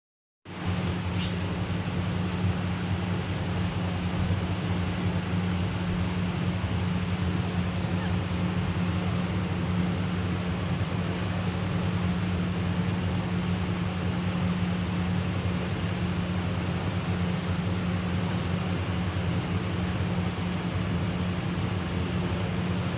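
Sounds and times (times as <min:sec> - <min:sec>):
low machine hum: 0:00.5 - 0:22.9.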